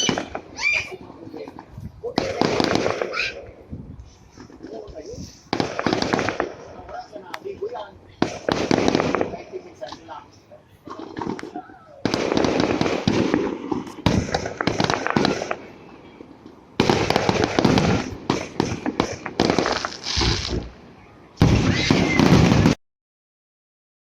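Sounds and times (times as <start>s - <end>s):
fireworks bangs and crackles: 0.0s - 3.6s, 4.3s - 22.8s.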